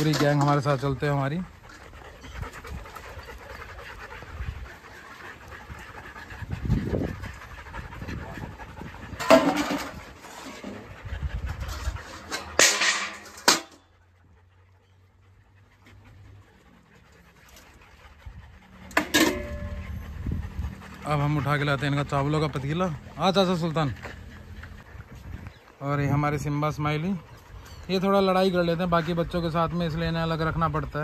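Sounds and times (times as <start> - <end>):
dogs panting: 0.0 - 31.0.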